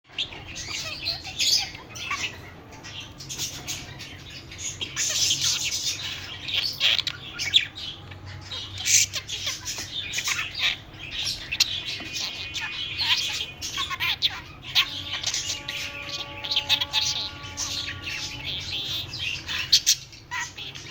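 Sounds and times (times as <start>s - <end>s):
budgerigar chattering: 0.1s - 20.9s.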